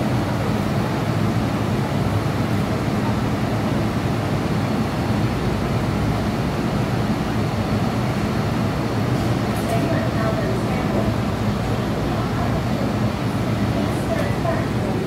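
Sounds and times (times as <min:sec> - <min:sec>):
train car low rumbling hum: 0:00.0 - 0:15.0.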